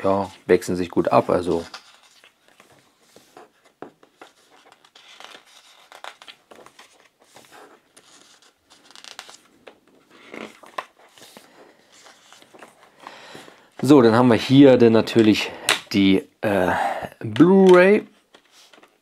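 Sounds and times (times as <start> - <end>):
paper pages flipping: 0.0 - 13.9, 17.4 - 19.0.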